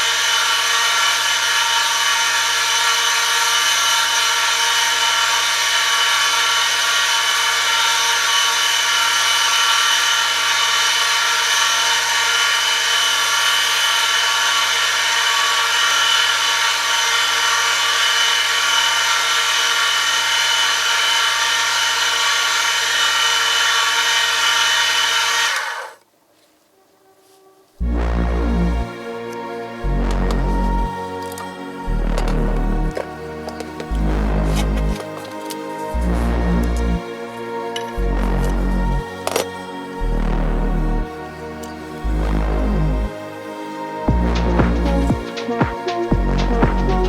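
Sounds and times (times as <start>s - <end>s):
motor whining with metal rubbing: 0.0s - 26.0s, 28.7s - 43.1s.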